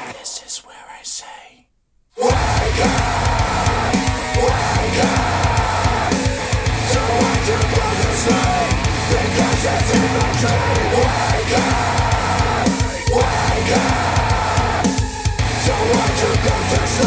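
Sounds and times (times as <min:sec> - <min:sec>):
rock music over speakers: 0:02.3 - 0:17.0.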